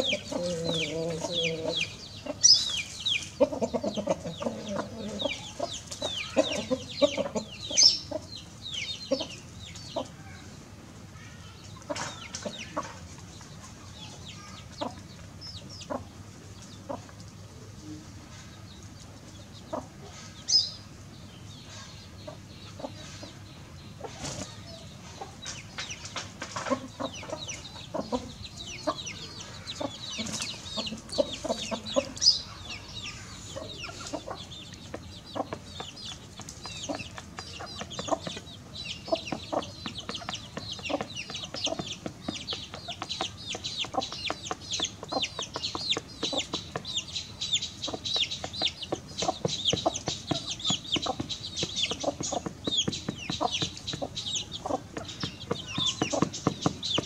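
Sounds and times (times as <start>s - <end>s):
hen clucking: 0.0s - 10.4s, 11.6s - 17.2s, 21.8s - 57.0s
chicks peeping: 0.0s - 57.0s.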